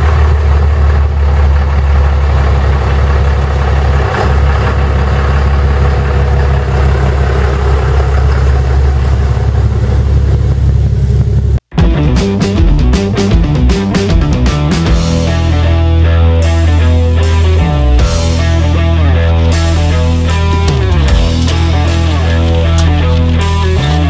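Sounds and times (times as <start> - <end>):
truck engine idling: 0.0 - 11.7, 12.5 - 24.0.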